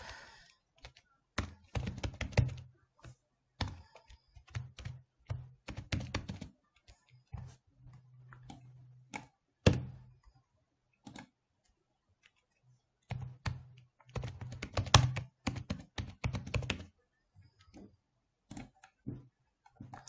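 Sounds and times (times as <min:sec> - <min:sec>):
typing on computer keyboard: 0:00.0 - 0:10.0, 0:12.2 - 0:17.8, 0:18.5 - 0:20.0.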